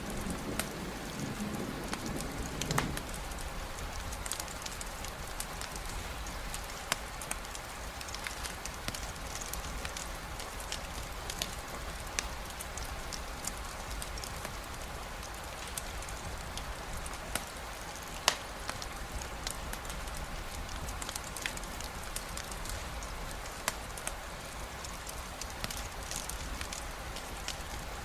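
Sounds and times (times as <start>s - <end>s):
campfire crackling and popping: 0.0s - 28.0s
rain hiss: 0.0s - 28.0s.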